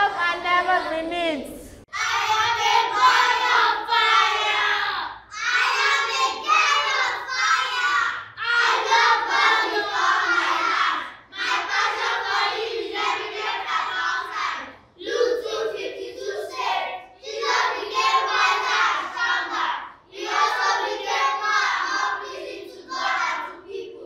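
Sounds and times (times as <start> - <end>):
children reciting in unison: 1.8 - 24.0.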